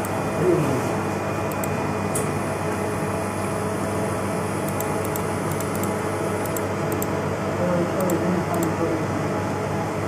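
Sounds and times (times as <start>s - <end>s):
machine fan hum: 0.0s - 10.0s.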